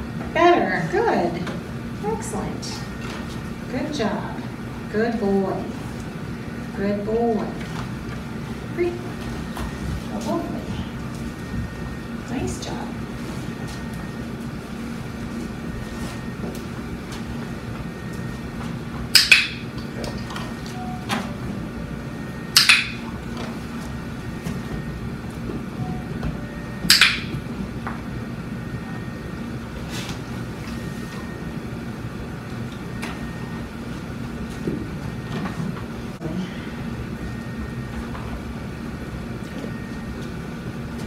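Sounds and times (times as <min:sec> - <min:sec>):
ventilation hum: 0:00.0 - 0:41.0.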